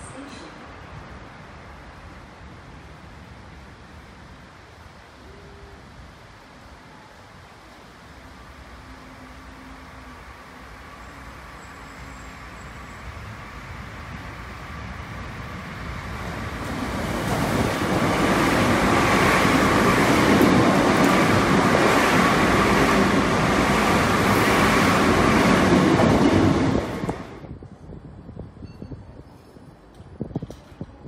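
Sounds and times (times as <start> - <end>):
train passing on rails: 0.0 - 31.0.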